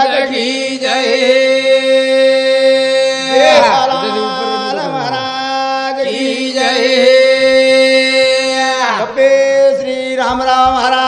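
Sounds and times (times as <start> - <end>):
men singing in chanting style: 0.0 - 11.0.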